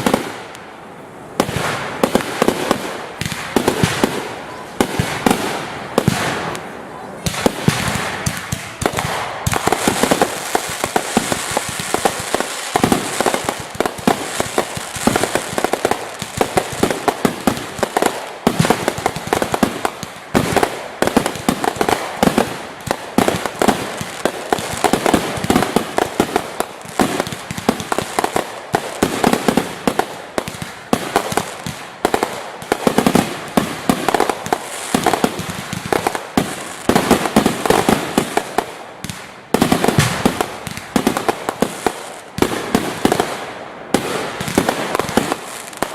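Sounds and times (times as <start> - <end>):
fireworks banging: 0.0 - 0.7, 1.3 - 45.9
fireworks crackle: 0.0 - 0.7, 1.3 - 45.9.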